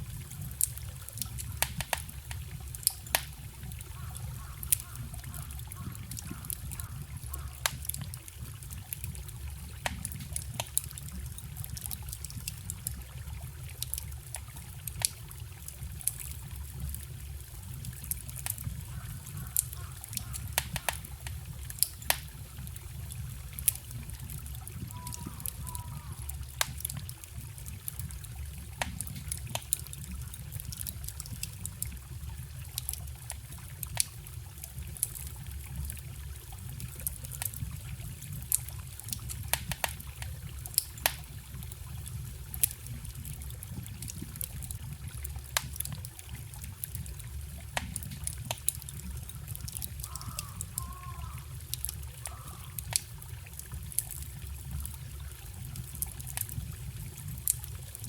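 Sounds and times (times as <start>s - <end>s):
trickling stream: 0.0s - 58.0s
wood fire crackling and popping: 0.0s - 58.0s.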